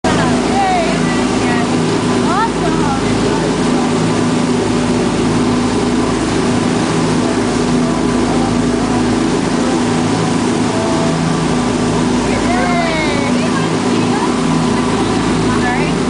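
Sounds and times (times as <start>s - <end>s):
boat engine droning: 0.0s - 16.0s
rushing wake water: 0.0s - 16.0s.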